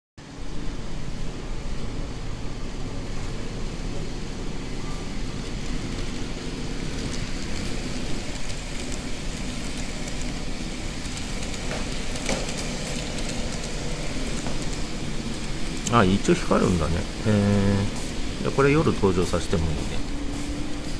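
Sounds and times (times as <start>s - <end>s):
model train motor and wheels rumbling: 0.2s - 20.9s.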